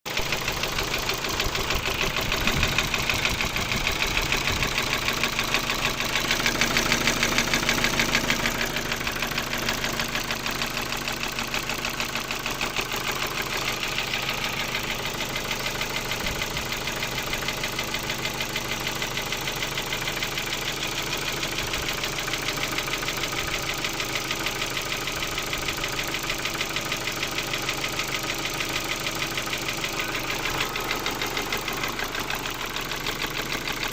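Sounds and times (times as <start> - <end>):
car engine idling: 0.1 - 33.9
fast knocking inside engine: 0.1 - 33.9.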